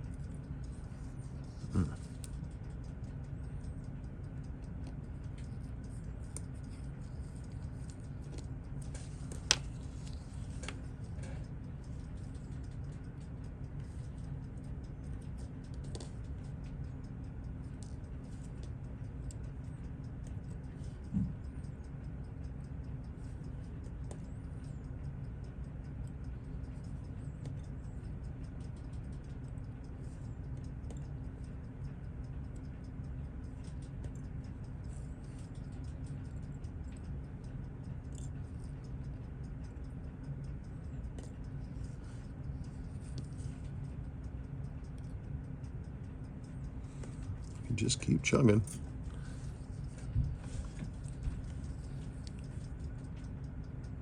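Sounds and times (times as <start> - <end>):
steady low hum: 0.0 - 54.0
watch ticking rapidly: 0.0 - 54.0.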